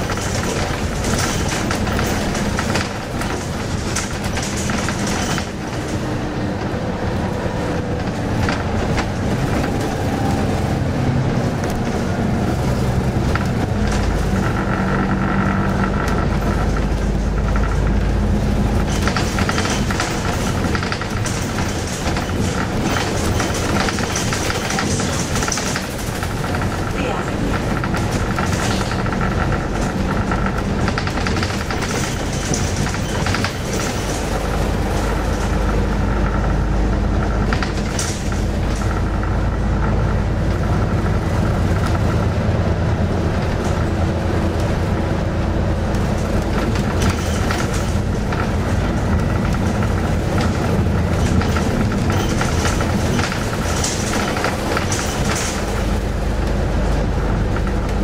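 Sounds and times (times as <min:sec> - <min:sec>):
bus engine and road rumble: 0:00.0 - 0:58.0
rattles and clicks from bus body: 0:00.0 - 0:58.0.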